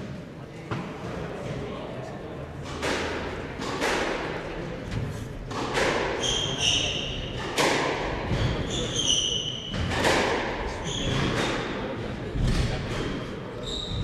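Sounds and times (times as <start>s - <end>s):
racket hitting squash ball: 2.5s - 14.0s.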